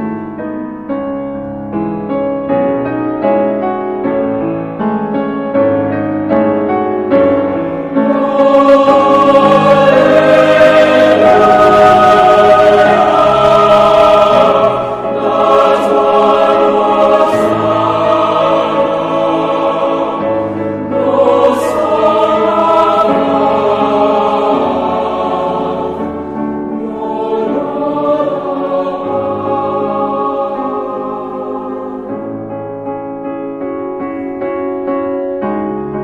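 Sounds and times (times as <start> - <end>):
slow choral music: 0.0 - 36.0.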